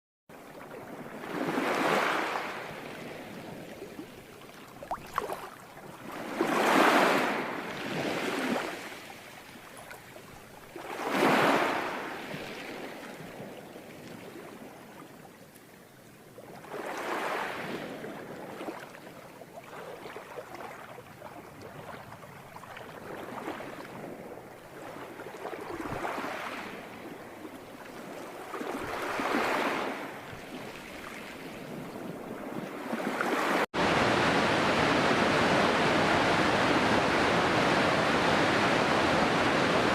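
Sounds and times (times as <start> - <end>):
ocean waves breaking: 0.3 - 15.6, 16.5 - 39.9.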